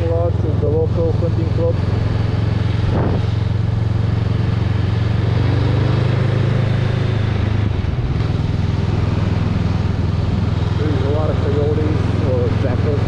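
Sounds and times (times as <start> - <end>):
motorcycle engine running: 0.0 - 13.0
wind rush on microphone: 1.8 - 5.7, 6.3 - 13.0.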